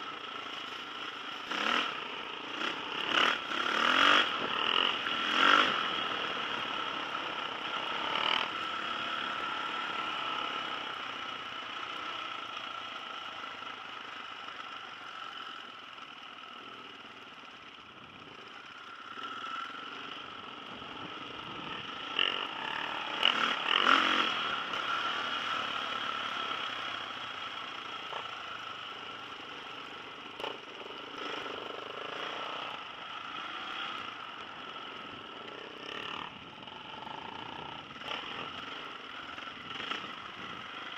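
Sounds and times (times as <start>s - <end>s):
trail bike engine running: 0.0s - 40.9s.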